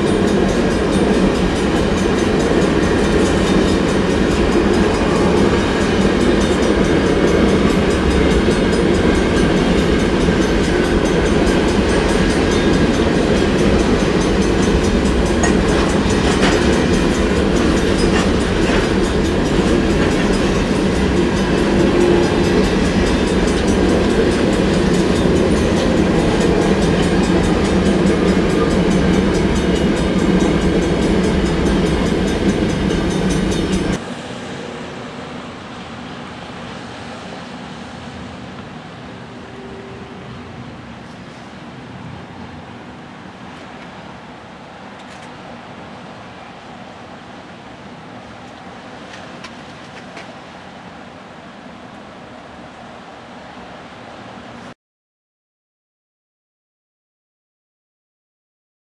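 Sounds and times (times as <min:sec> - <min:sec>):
train wheels rumbling on rails: 0:00.0 - 0:39.7, 0:40.7 - 0:52.7.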